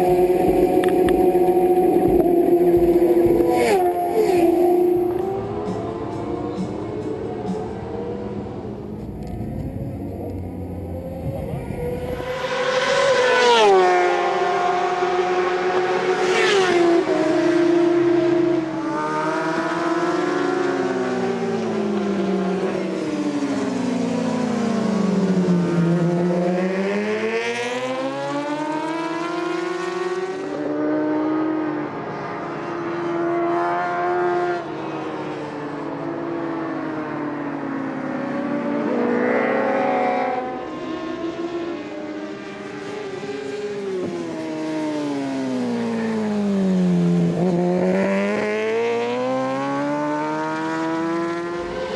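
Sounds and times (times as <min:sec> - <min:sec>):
racing motorcycle engines revving: 0:00.0 - 0:51.9.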